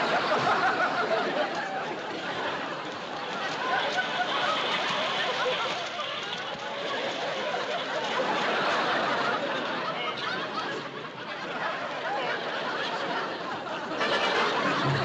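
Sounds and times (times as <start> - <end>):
studio audience laughing: 0.0 - 15.0.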